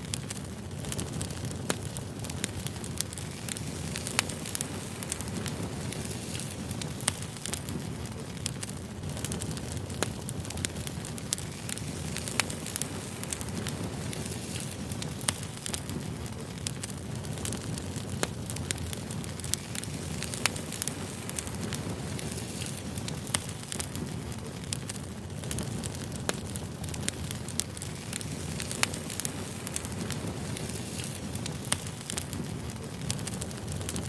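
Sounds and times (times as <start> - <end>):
burning logs crackling and popping: 0.0 - 34.0
rumble of flames: 0.0 - 34.0.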